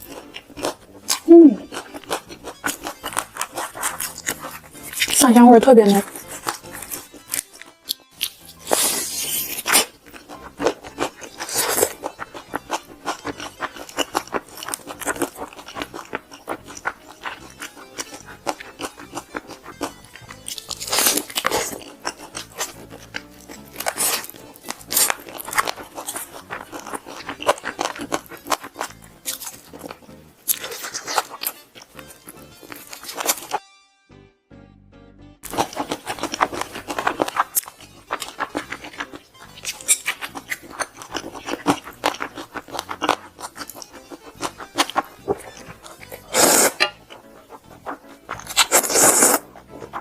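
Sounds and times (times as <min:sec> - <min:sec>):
fried chicken crunching: 0:00.0 - 0:05.4, 0:06.0 - 0:33.6, 0:35.4 - 0:50.0
background music: 0:00.0 - 0:50.0.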